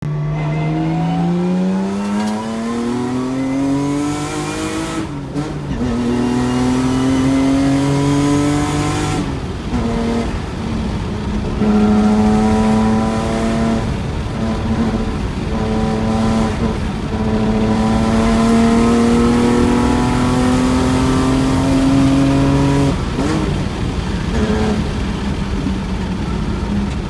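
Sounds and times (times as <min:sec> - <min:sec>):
car engine revving hard: 0:00.0 - 0:27.0.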